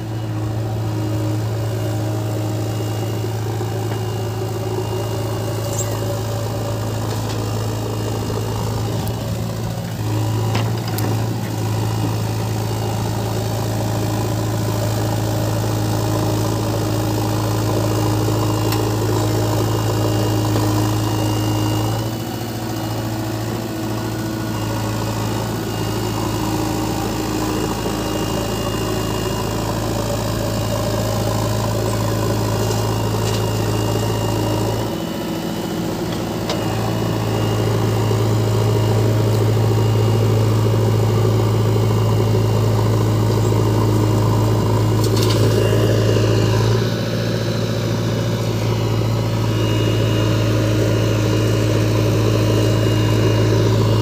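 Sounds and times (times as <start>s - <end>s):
backhoe diesel engine running: 0.0s - 54.0s
digger loading soil: 0.1s - 54.0s.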